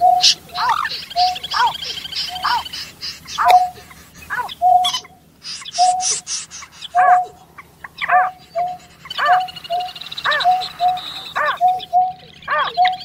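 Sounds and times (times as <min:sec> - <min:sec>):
bird hooting calls: 0:00.0 - 0:13.0.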